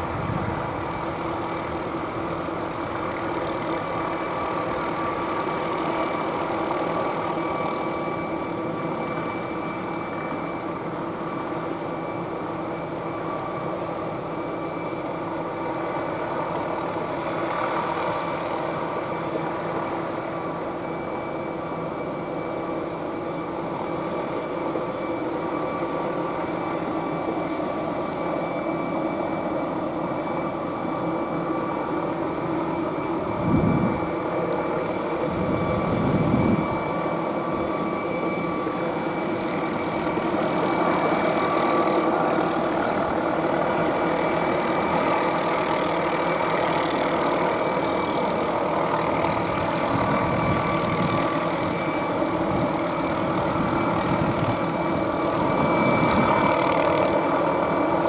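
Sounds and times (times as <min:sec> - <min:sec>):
helicopter rotor hum: 0:00.0 - 0:58.0
helicopter turbine whine: 0:00.0 - 0:58.0.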